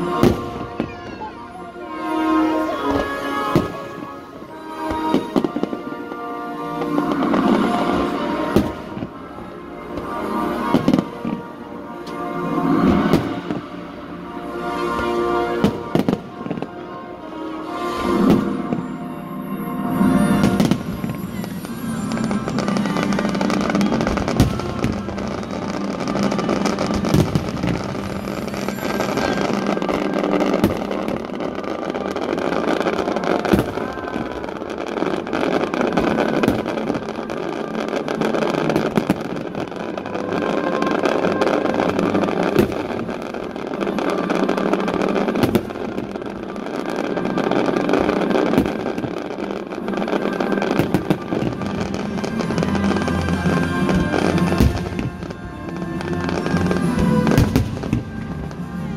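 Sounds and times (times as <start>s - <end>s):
fireworks bangs: 0.0s - 58.9s
fireworks rumble and crackle: 0.0s - 58.9s
music playing: 0.0s - 58.9s.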